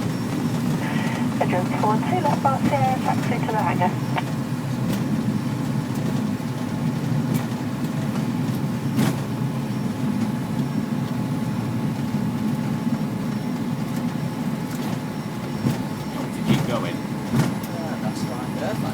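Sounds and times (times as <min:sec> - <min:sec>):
twin piston aircraft engines: 0:00.0 - 0:18.9.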